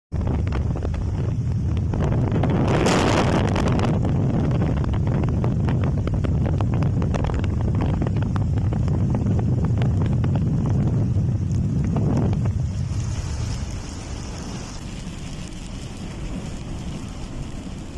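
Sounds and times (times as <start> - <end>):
heavy rain falling: 0.1 - 17.9
wind buffeting microphone: 0.1 - 17.9.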